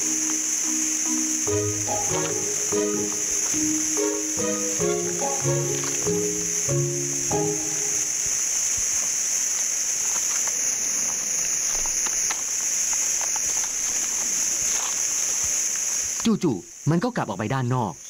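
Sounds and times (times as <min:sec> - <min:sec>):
high-pitched insect drone: 0:00.0 - 0:16.2.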